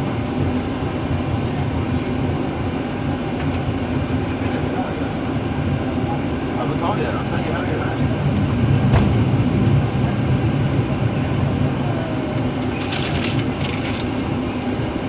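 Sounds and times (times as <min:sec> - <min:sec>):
airliner cockpit rumble: 0:00.0 - 0:15.0.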